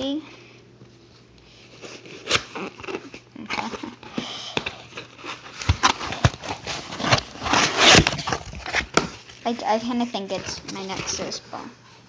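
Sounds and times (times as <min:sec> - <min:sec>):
bubble wrap crinkling: 0:01.6 - 0:11.7.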